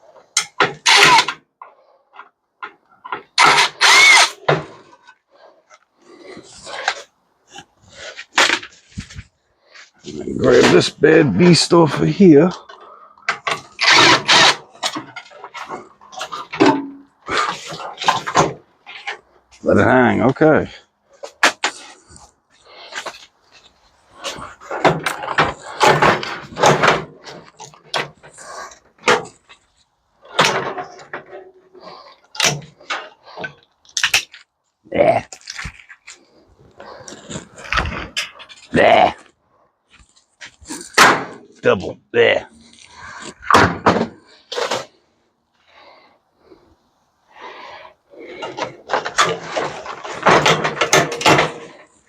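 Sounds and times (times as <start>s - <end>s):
metal parts rattling and scraping: 0.0s - 19.8s, 21.1s - 34.4s, 35.3s - 41.6s, 48.2s - 52.0s.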